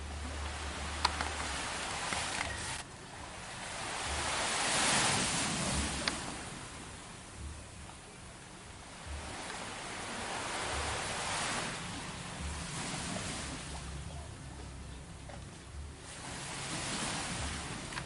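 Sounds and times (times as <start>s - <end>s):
sea waves washing on shore: 0.0s - 18.0s
wind rumble on microphone: 0.0s - 18.0s.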